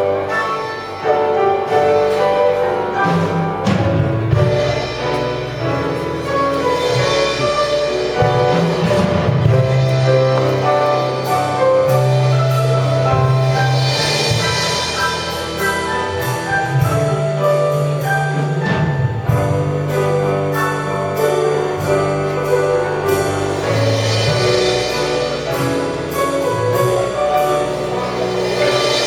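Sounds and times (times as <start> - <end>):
held melodic notes: 0.0 - 29.0
sharp percussion hits: 1.7 - 29.0
sustained low bass line: 3.6 - 29.0.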